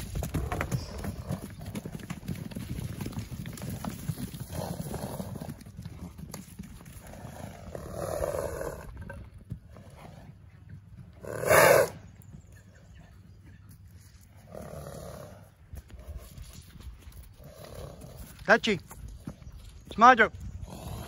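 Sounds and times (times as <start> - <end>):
hooves thudding on dirt: 0.0 - 21.0.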